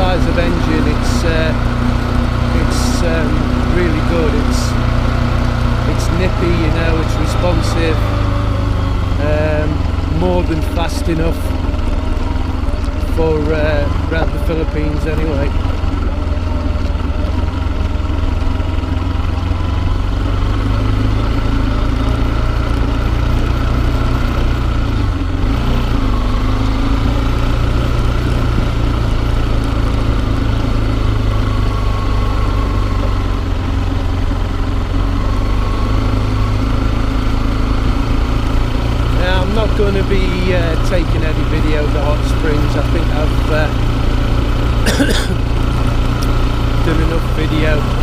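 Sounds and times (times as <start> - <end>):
small motorbike engine running: 0.0 - 48.0.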